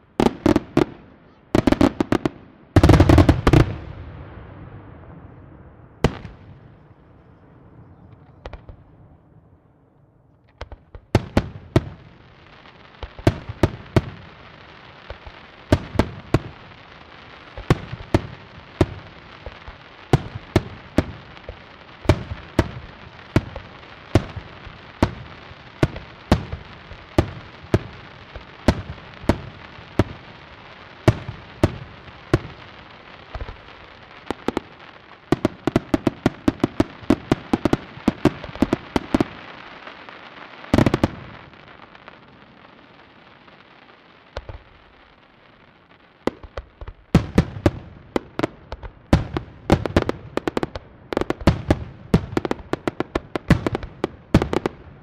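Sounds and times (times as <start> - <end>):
fireworks crackle: 0.0 - 9.4, 10.3 - 55.0
fireworks bangs: 0.0 - 55.0.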